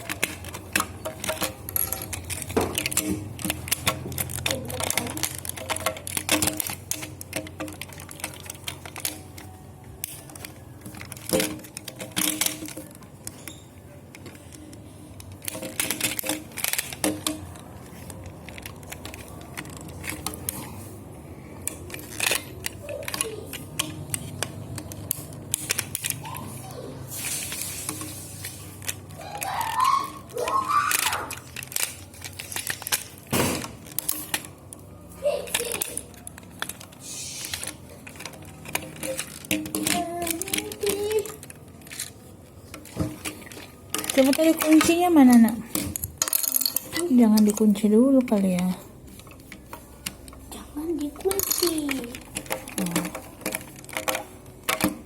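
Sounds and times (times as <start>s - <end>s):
plastic toy parts clicking: 0.0s - 55.0s.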